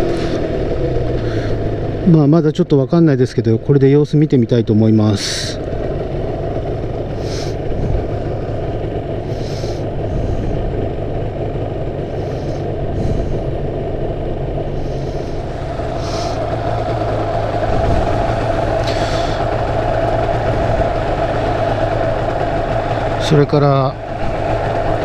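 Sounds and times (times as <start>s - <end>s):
two-stroke motorcycle engine running: 0.0s - 25.0s.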